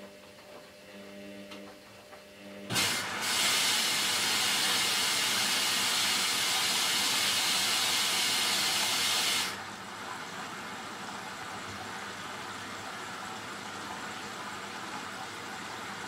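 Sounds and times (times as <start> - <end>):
water rushing into washing machine: 2.7 - 16.0.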